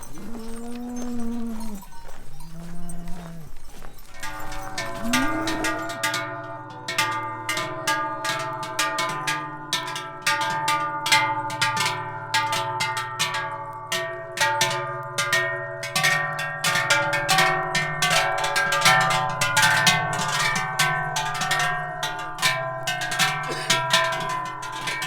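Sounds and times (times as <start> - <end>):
cowbells ringing: 0.0 - 25.0.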